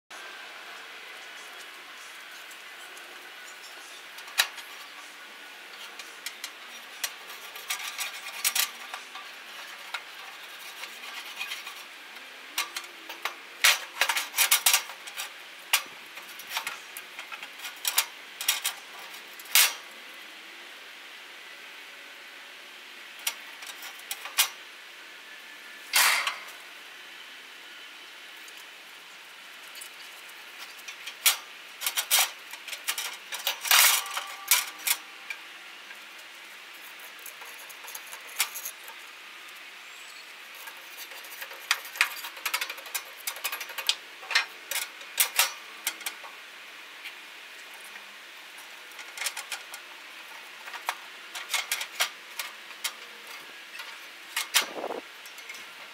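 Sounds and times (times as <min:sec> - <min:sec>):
metal tools scraping grill grates: 0:01.1 - 0:19.9, 0:23.2 - 0:24.6, 0:25.9 - 0:26.7, 0:29.6 - 0:39.2, 0:40.0 - 0:55.9.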